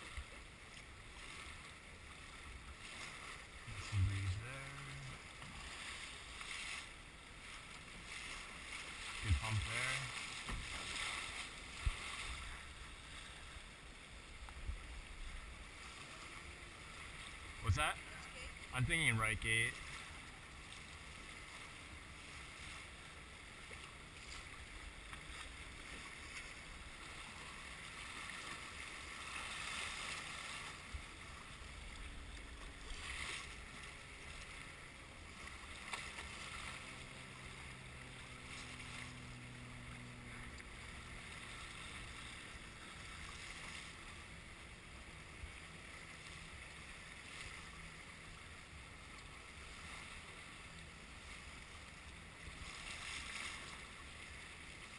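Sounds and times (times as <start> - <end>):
water rushing along hull: 0.0 - 54.9.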